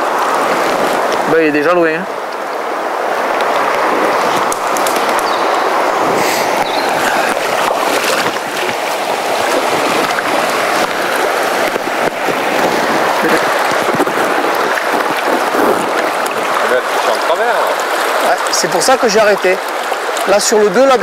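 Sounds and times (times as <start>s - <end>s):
river rushing over riffle: 0.0s - 21.0s.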